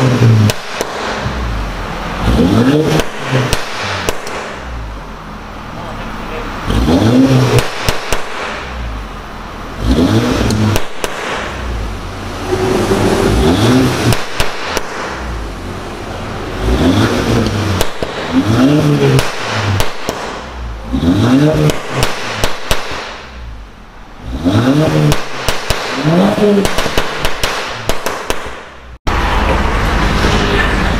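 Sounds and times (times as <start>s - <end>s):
exhaust crackles and pops: 0.0s - 5.2s, 5.9s - 12.0s, 13.2s - 15.8s, 16.6s - 30.6s
car engine revving: 0.0s - 30.9s.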